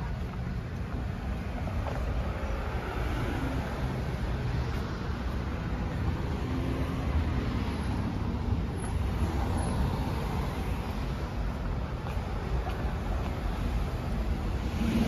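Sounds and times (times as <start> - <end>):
rumble of passing cars: 0.0 - 15.0.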